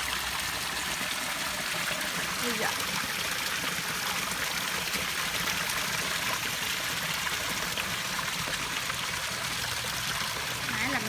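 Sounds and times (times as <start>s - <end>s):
water running over rocks: 0.0s - 11.0s.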